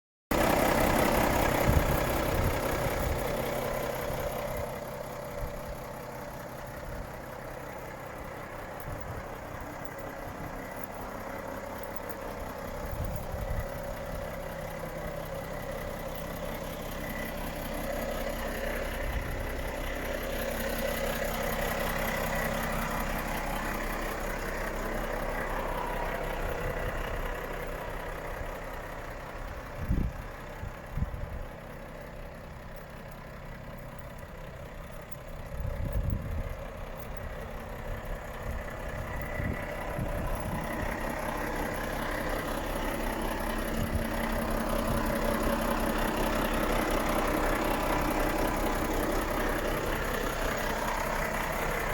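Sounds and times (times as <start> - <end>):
diesel truck engine idling: 0.3 - 51.9.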